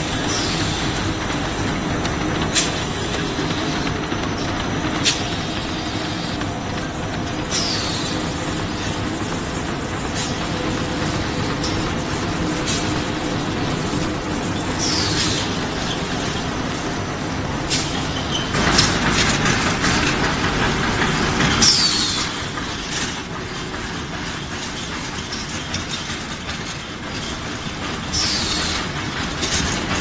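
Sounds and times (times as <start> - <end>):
machine belts and rollers clattering: 0.0 - 30.0.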